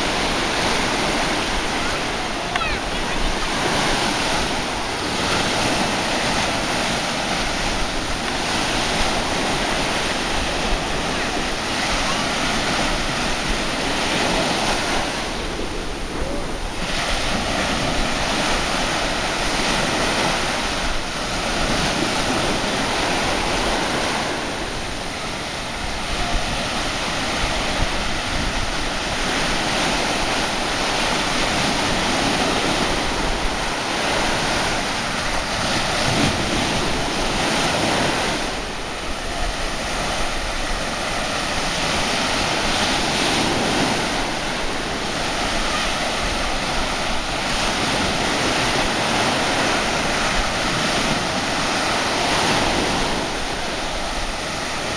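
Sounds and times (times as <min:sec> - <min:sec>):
small waves breaking: 0:00.0 - 0:54.9
wind buffeting microphone: 0:00.0 - 0:54.9.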